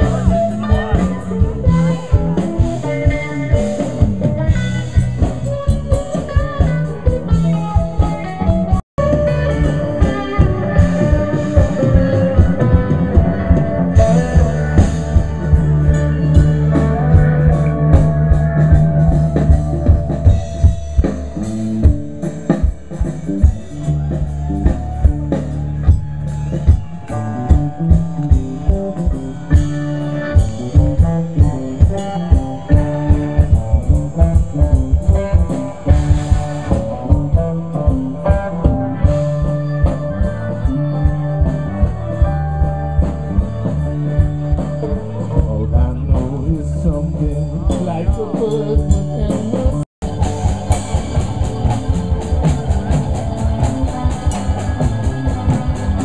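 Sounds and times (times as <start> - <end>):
band music through speaker: 0.0 - 56.0
bass line: 0.0 - 56.0.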